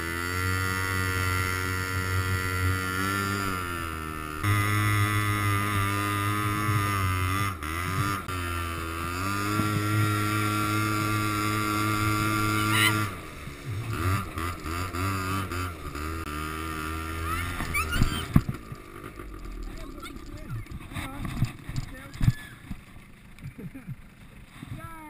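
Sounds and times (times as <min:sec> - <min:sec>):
quad bike engine revving: 0:00.0 - 0:25.0.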